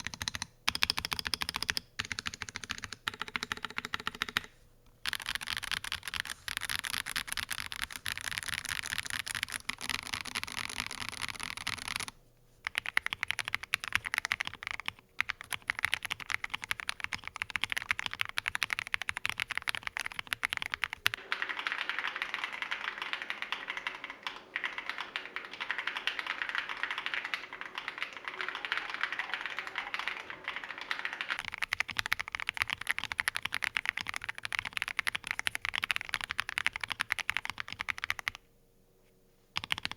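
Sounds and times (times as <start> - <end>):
mechanical keyboard typing: 0.0 - 38.4, 39.6 - 39.9.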